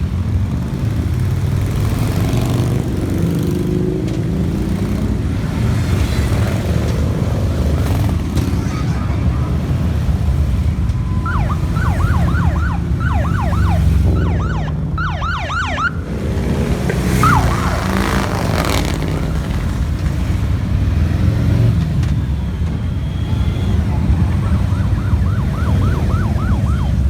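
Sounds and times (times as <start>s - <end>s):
motorcycle engines rumbling: 0.0s - 27.0s.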